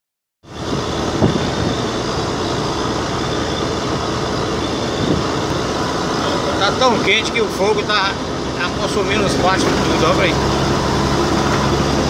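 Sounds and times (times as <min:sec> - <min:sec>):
car engine and road noise: 0:00.4 - 0:12.0.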